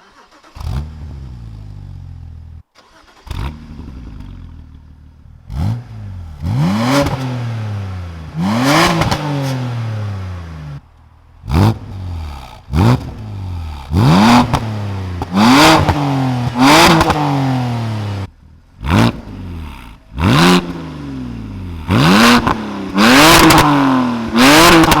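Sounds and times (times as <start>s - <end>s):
car engine revving: 0.0s - 25.0s
exhaust crackle: 0.0s - 25.0s.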